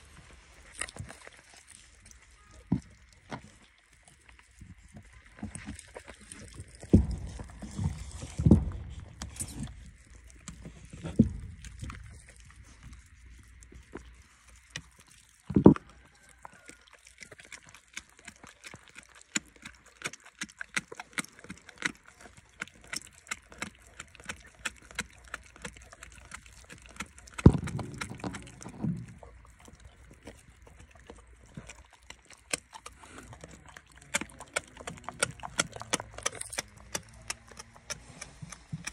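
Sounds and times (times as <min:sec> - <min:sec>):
dog crunching on bone: 0:00.6 - 0:38.9.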